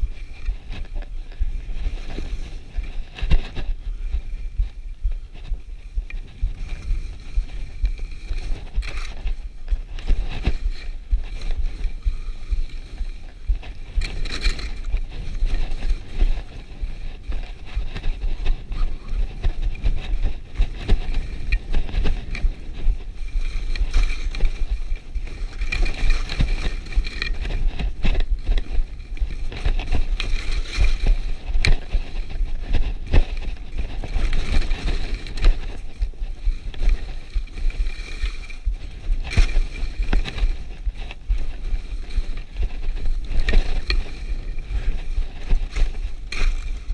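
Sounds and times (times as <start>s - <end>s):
skis scraping over snow: 0.0s - 46.9s
wind buffeting microphone: 0.0s - 46.9s.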